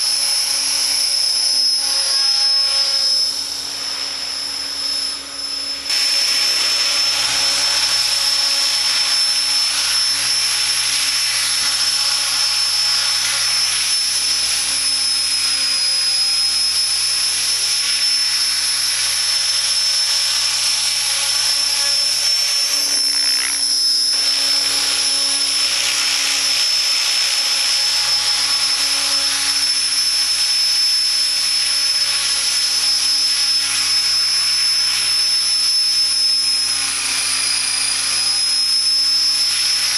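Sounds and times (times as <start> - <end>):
electric helicopter motor whine: 0.0 - 39.9
rotor blades rushing: 0.0 - 39.9.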